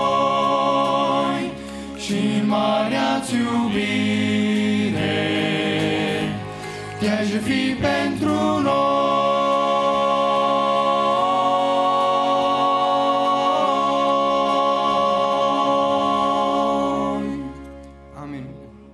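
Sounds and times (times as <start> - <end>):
male vocal group singing: 0.0 - 17.8.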